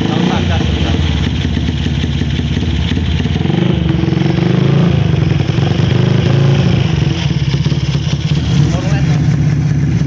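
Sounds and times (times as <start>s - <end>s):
motorcycle engine exhaust pulsing: 0.0s - 10.0s.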